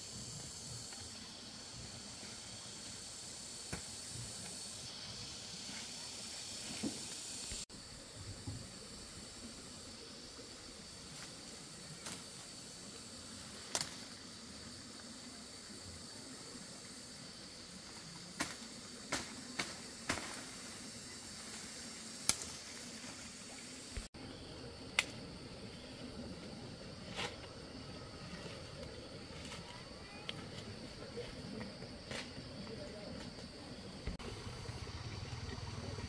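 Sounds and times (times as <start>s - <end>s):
faint high outdoor hiss: 0.0s - 36.0s.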